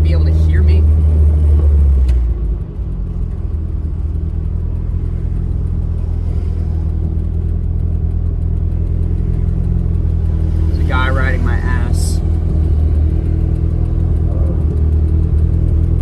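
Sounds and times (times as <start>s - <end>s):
car engine running: 0.0s - 16.0s
road and wind noise: 0.0s - 16.0s.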